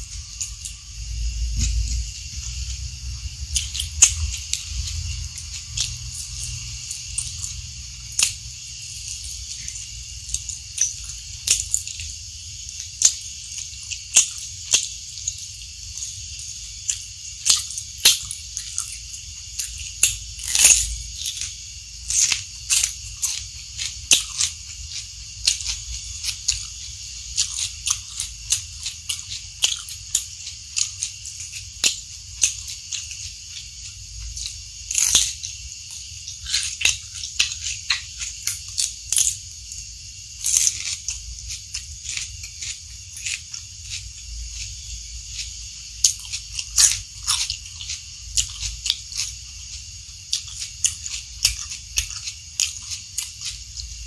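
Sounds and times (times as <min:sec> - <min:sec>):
crunching raw vegetables: 0:00.0 - 0:54.0
steady hiss: 0:00.0 - 0:54.0.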